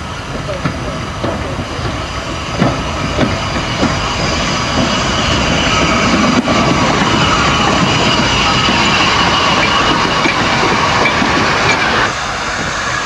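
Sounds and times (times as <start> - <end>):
rumble of wheels on rails: 0.0 - 13.0
steam locomotive exhaust beats: 0.0 - 13.0
high ringing wheel squeal: 2.1 - 13.0.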